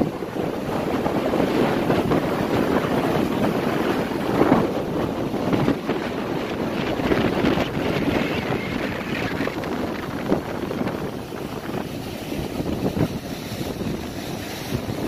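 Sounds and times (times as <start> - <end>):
surf breaking among rocks: 0.0 - 15.0
wind buffeting microphone: 0.0 - 15.0.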